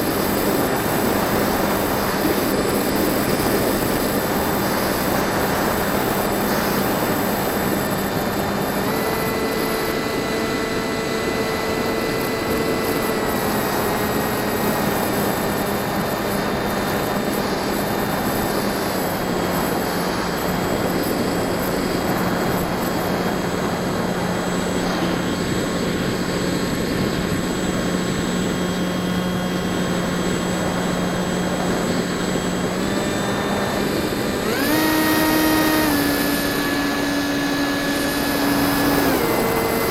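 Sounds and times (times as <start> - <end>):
electric motor and propeller humming: 0.0 - 39.9.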